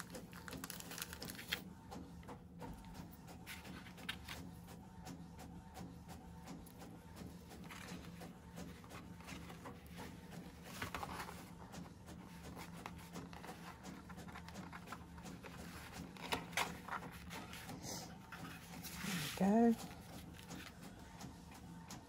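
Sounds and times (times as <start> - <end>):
cardstock rustling and crinkling: 0.0 - 4.7, 6.6 - 21.0.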